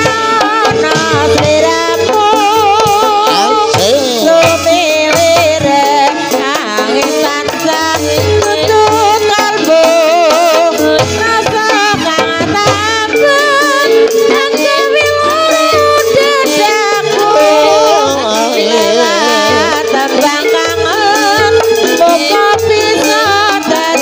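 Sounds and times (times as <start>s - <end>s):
gamelan dance music: 0.0s - 24.0s
hand drum patterns: 0.0s - 24.0s
metallophones: 0.0s - 24.0s
woman singing vibrato melody: 0.0s - 24.0s.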